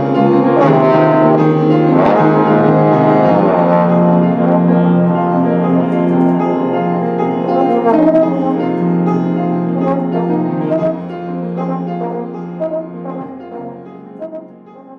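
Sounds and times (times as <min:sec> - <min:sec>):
piano playing: 0:00.0 - 0:14.9
trombone low sustained note: 0:00.0 - 0:14.9.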